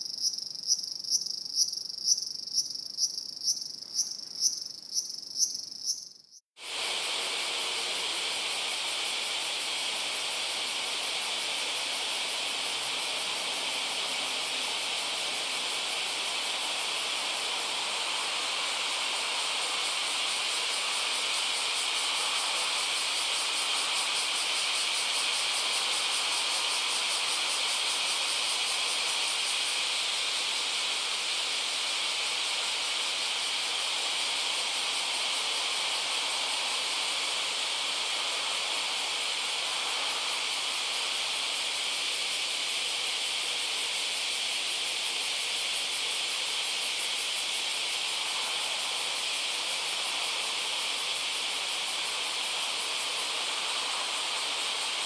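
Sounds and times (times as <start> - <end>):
insects trilling chorus: 0.0 - 6.8, 7.6 - 55.0
crickets chirping: 0.0 - 55.0.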